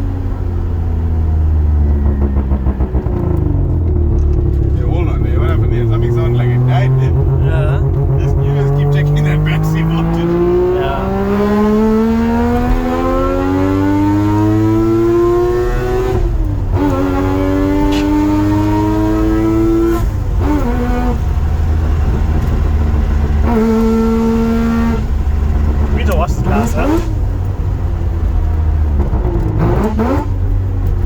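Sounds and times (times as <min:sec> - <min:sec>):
low road rumble: 0:00.0 - 0:31.0
rotary engine accelerating: 0:00.9 - 0:31.0.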